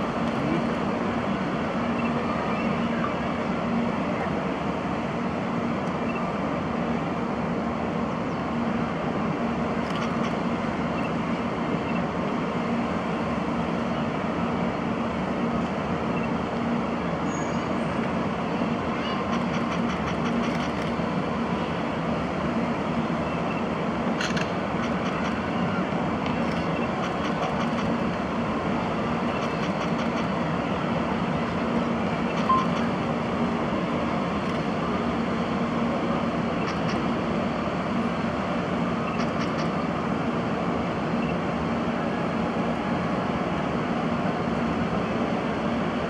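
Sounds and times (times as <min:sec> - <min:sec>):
train rumbling slowly: 0:00.0 - 0:46.0.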